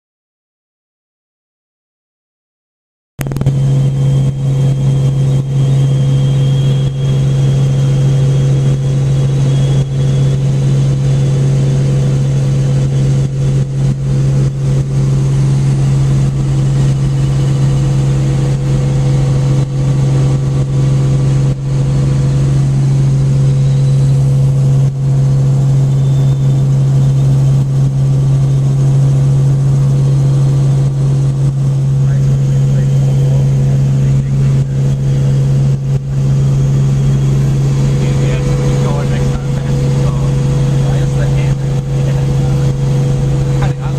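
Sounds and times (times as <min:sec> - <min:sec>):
helicopter engine and rotor drone: 0:03.2 - 0:43.9.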